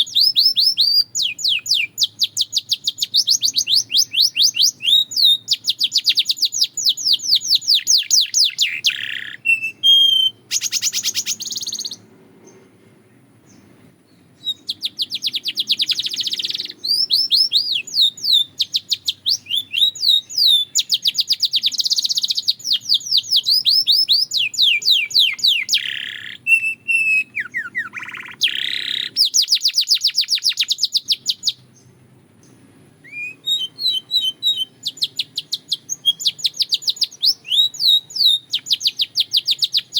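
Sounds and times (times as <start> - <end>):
canary singing: 0.0 - 12.6, 13.4 - 39.9.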